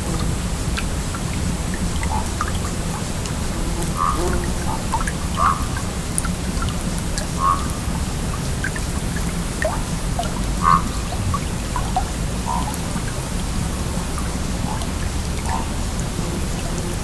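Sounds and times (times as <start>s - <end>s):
stream flowing: 0.0s - 17.0s
water drips: 0.0s - 17.0s
water gurgling: 0.0s - 17.0s.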